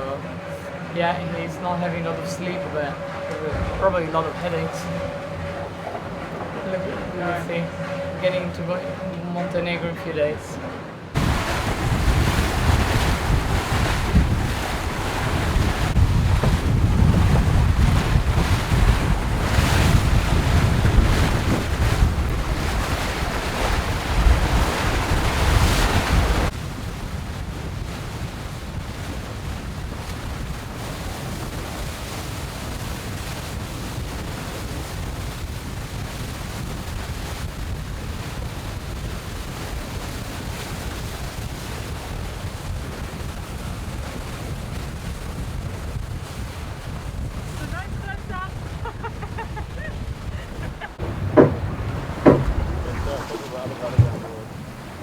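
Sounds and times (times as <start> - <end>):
wind and water rushing: 0.0 - 55.0
wind buffeting microphone: 0.0 - 55.0.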